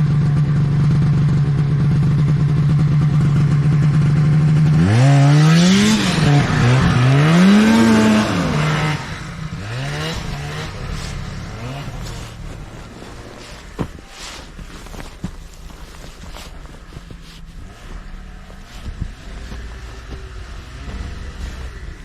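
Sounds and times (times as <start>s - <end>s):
snowmobile engine revving: 0.3s - 22.0s.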